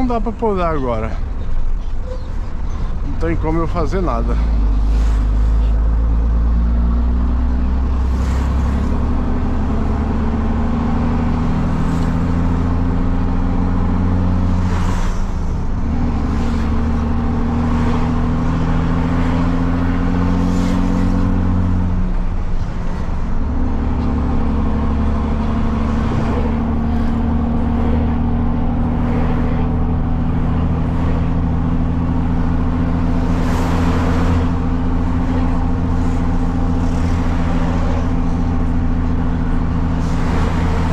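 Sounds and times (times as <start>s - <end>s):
unmuffled truck engine: 0.0s - 40.9s.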